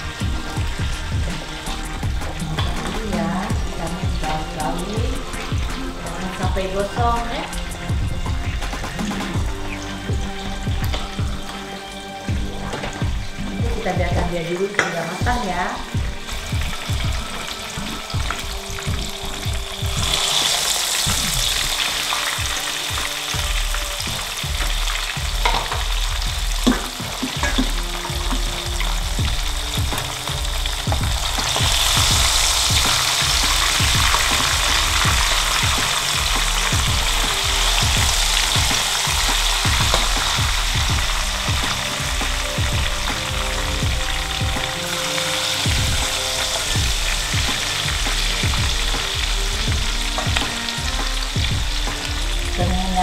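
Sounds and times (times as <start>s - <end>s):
fish frying in hot oil: 0.0s - 53.0s.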